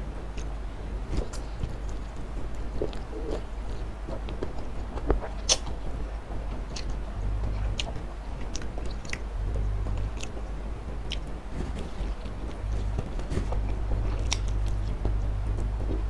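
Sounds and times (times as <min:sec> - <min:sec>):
wet chewing and smacking: 0:01.2 - 0:16.0.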